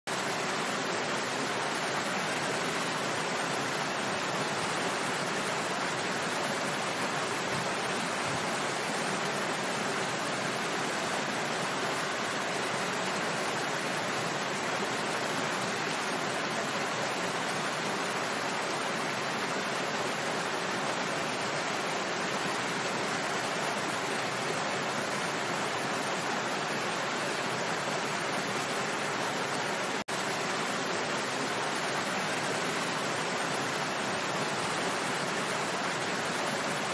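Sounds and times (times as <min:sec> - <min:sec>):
waterfall splashing: 0:00.1 - 0:36.9.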